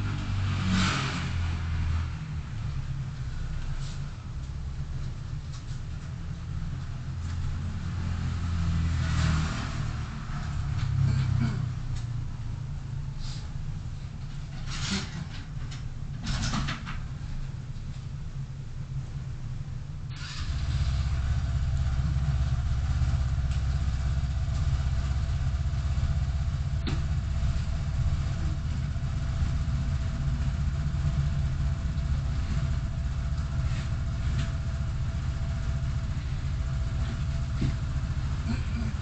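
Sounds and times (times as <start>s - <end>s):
car engine starting and running: 0.0s - 13.9s, 19.9s - 39.0s.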